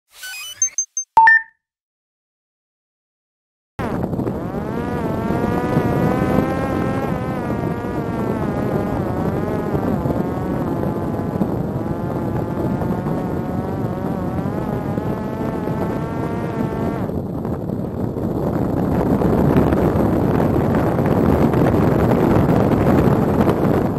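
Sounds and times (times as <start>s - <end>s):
electric motor and propeller whine: 3.8s - 23.9s.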